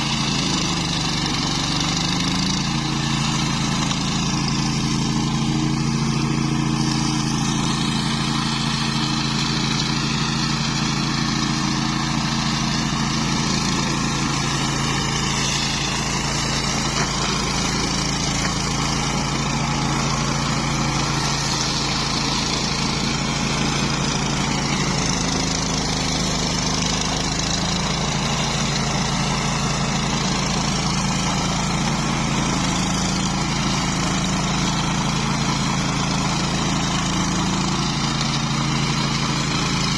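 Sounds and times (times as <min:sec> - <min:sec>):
mower engine droning: 0:00.0 - 0:39.9.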